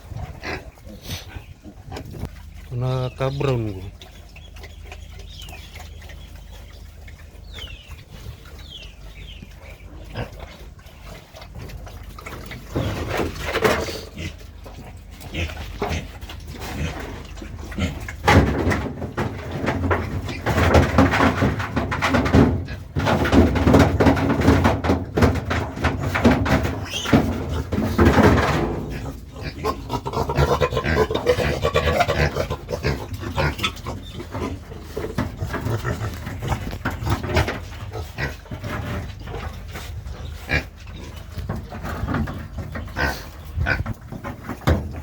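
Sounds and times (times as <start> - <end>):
pigs grunting and squealing: 0.0 - 45.0.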